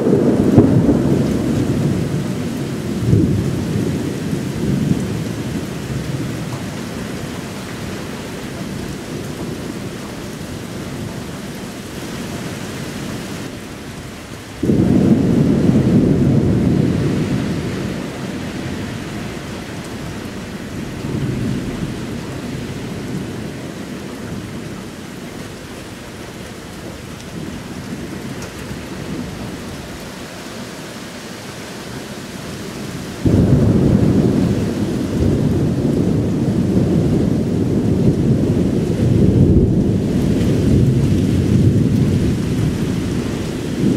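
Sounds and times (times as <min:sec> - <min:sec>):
thunder rumbling: 0:00.0 - 0:12.4, 0:13.2 - 0:30.1, 0:32.6 - 0:43.9
steady rain: 0:00.0 - 0:43.9.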